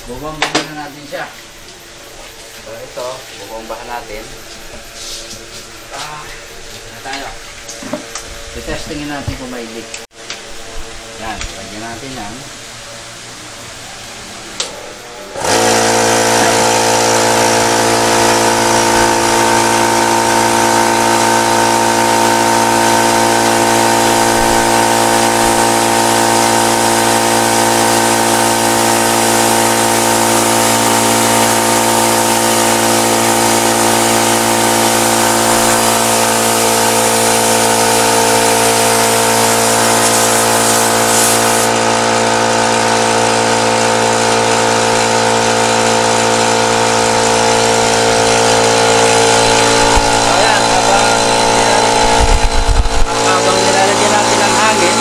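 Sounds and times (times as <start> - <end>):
air compressor motor hum: 0.0 - 55.0.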